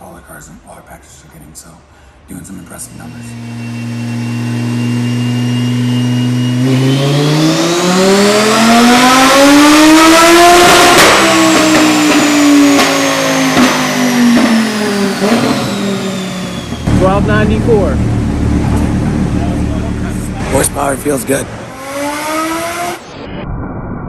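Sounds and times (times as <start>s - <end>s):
high turbo whine: 2.7s - 23.4s
exhaust pops: 2.8s - 22.2s
car engine revving: 2.8s - 23.3s.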